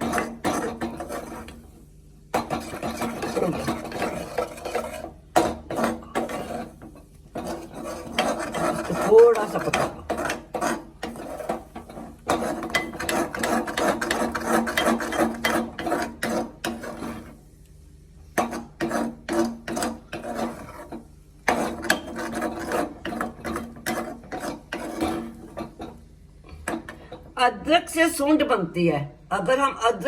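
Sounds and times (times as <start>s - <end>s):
spatula scraping sticky mixture: 0.0s - 17.6s, 18.2s - 26.8s.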